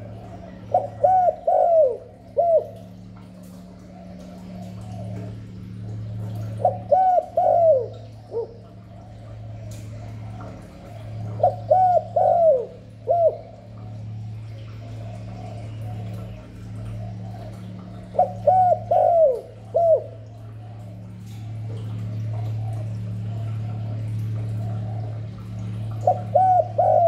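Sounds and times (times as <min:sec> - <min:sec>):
dove cooing: 0:00.0 - 0:27.0
low hum: 0:00.0 - 0:27.0.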